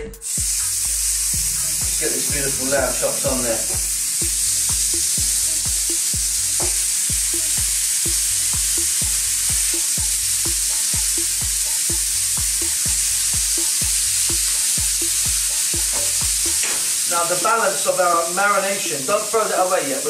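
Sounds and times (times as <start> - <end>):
background music with steady beat: 0.0 - 20.0
meat sizzling on grill pan: 0.2 - 20.0.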